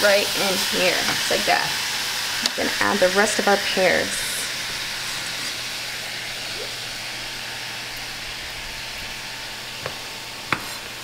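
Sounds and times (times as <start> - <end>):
food sizzling in a saucepan: 0.0 - 11.0.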